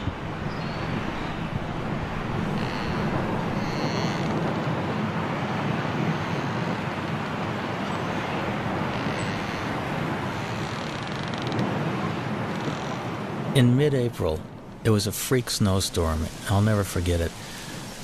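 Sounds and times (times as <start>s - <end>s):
strong storm wind: 0.0s - 18.0s.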